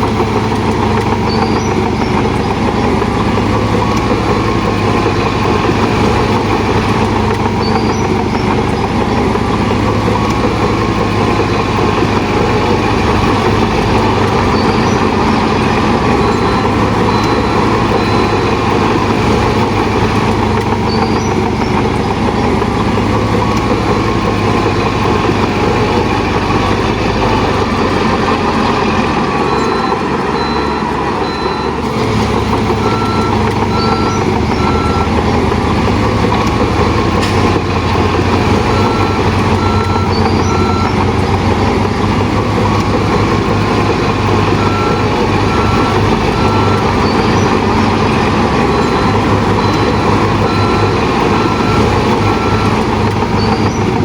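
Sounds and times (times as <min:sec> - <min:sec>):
diesel earthmoving machinery running: 0:00.0 - 0:54.0
reversing alarm beeping: 0:00.0 - 0:54.0.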